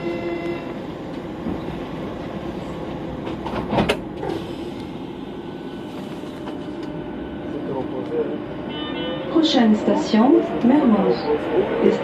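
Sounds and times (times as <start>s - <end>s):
metro train rumbling in tunnel: 0.0s - 12.0s.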